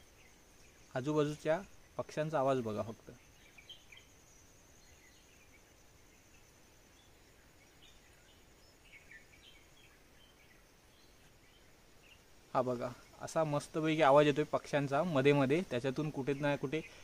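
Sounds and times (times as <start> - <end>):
faint high-pitched whine: 0.0 - 17.0
forest birds chirping: 0.0 - 17.0.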